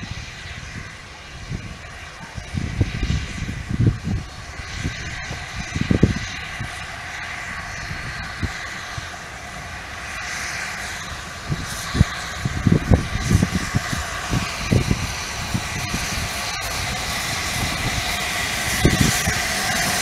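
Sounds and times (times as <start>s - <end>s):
distant steam locomotive: 0.0s - 20.0s.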